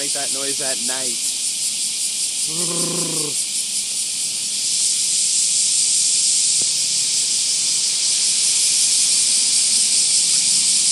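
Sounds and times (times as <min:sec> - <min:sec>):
cicadas singing: 0:00.0 - 0:10.9.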